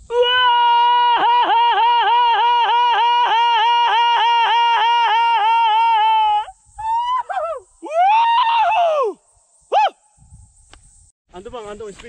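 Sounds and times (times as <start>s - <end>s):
man yodelling high call: 0.1s - 10.0s.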